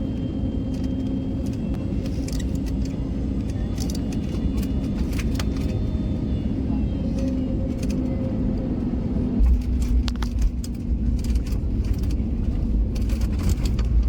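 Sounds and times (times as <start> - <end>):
airliner engine hum: 0.0 - 14.0
wheels rattling on runway: 0.7 - 14.0.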